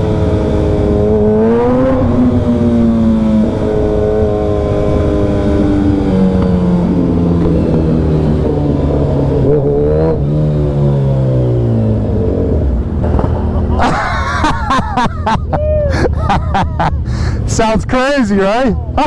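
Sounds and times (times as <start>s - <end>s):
loud motorcycle engine: 0.0s - 17.8s.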